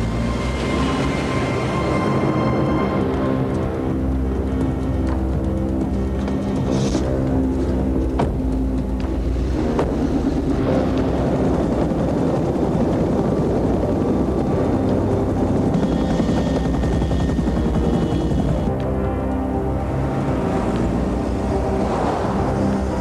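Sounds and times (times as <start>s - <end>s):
helicopter rotor chop: 3.2s - 23.0s.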